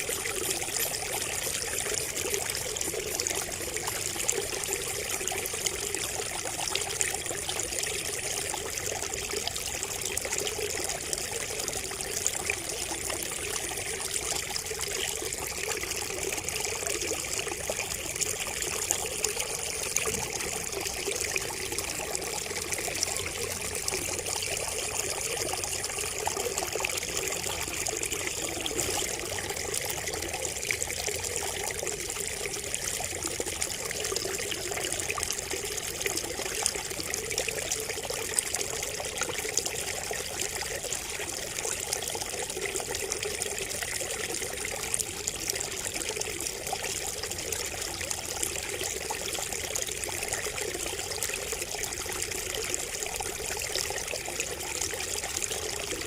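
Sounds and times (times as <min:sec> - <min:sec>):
water trickling from a spout: 0:00.0 - 0:56.0.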